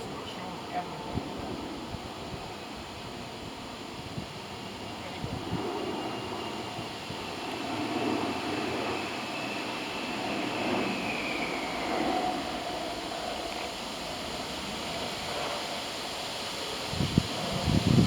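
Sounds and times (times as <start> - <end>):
distant engine: 0.0 - 18.0
faint high whine: 0.0 - 18.0
wind: 0.0 - 18.0.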